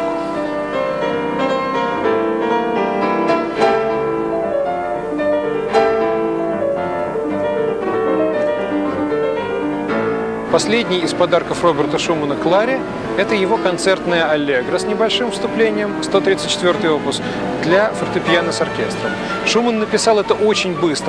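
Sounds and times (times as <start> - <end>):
classical piano music: 0.0 - 21.0.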